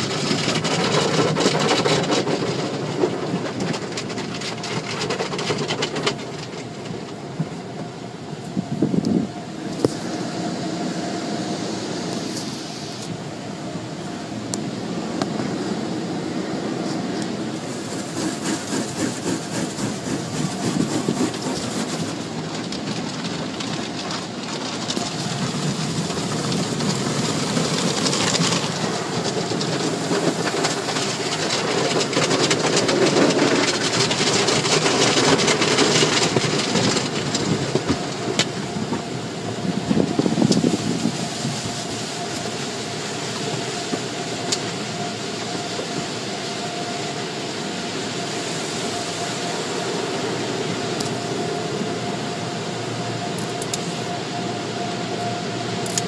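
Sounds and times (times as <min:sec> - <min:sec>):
car wash brushes and water spray: 0:00.0 - 0:56.0
wash equipment humming: 0:00.0 - 0:56.0.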